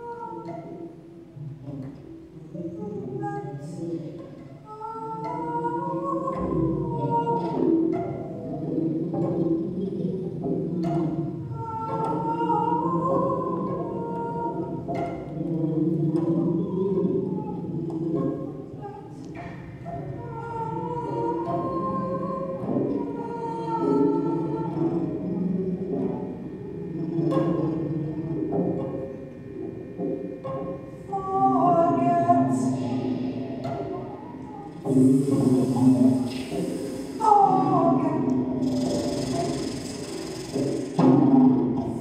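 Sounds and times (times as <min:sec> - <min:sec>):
woman singing: 0:00.0 - 0:28.8, 0:30.9 - 0:39.7
bowed cello low notes: 0:00.0 - 0:42.0.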